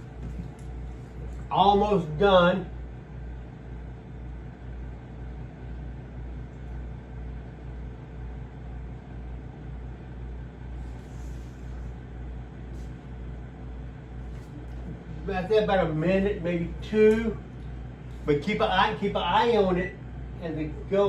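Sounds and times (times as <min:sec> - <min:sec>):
microwave oven humming: 0:00.0 - 0:21.0.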